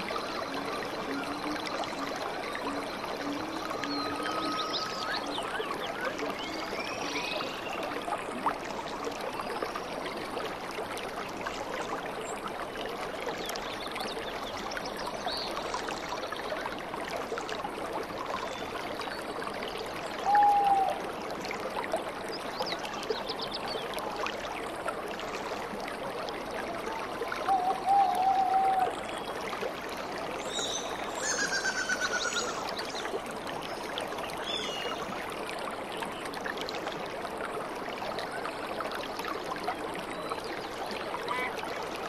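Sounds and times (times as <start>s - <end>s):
small waterfall running over rocks: 0.0s - 42.0s.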